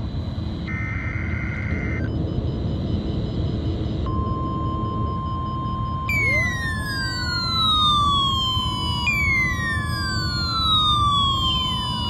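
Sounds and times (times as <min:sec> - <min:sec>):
steady warning alarm tone: 0:00.0 - 0:12.0
falling alert siren wail: 0:00.6 - 0:12.0.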